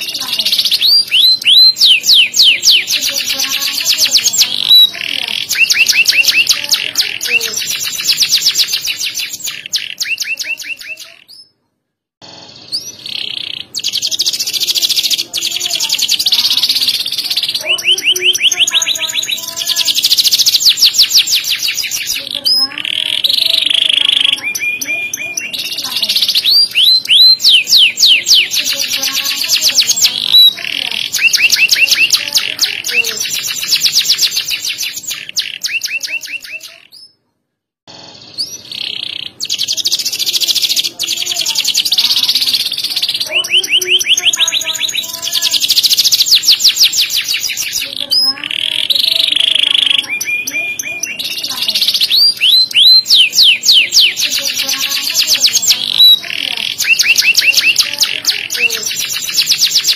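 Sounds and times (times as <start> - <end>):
canary singing trills: 0.0 - 37.2, 37.9 - 59.9.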